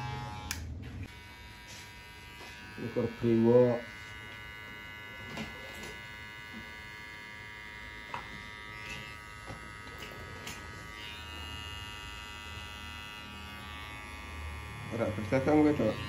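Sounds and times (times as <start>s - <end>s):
hair trimmer buzzing: 0.0s - 16.0s.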